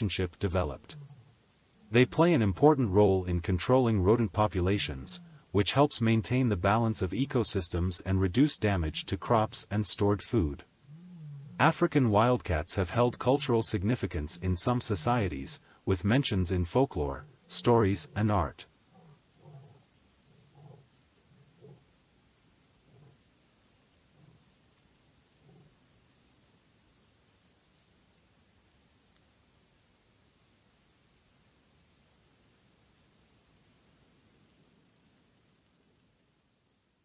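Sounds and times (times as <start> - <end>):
insects chirping: 0.0 - 37.0.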